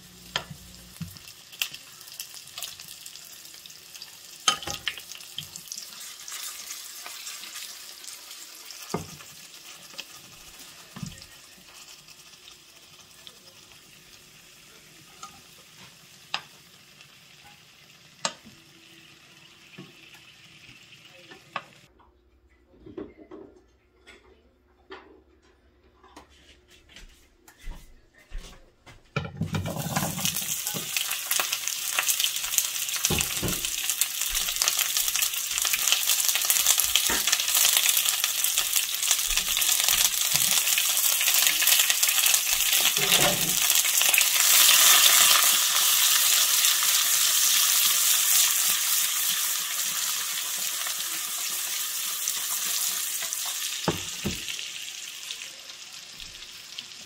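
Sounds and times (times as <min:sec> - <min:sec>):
vegetables sizzling in hot fat: 0:00.0 - 0:21.9, 0:29.6 - 0:57.0.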